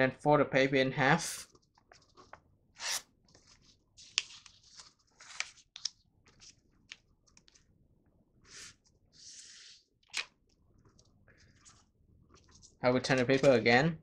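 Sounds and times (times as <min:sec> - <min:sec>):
paper being folded and creased: 0:01.5 - 0:07.7, 0:08.4 - 0:13.5.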